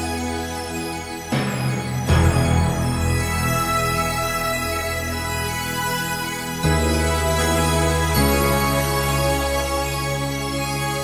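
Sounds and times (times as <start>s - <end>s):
soft sustained music chords: 0.0s - 11.0s.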